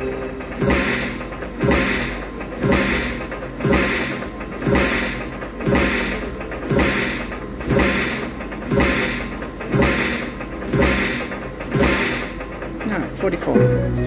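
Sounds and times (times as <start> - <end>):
slot machine win sound: 0.0 - 12.4, 13.4 - 14.0.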